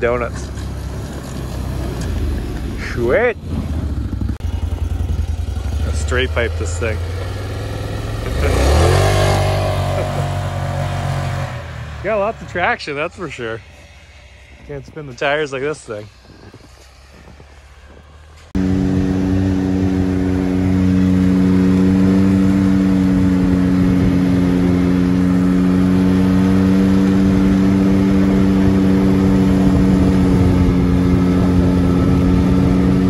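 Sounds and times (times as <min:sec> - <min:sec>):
utility vehicle engine droning: 0:00.0 - 0:33.0.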